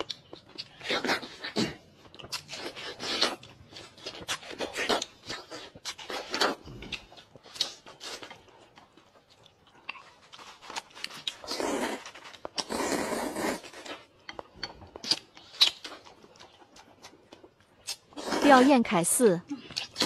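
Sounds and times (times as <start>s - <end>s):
chewing and biting: 0.0s - 18.6s, 19.5s - 20.0s.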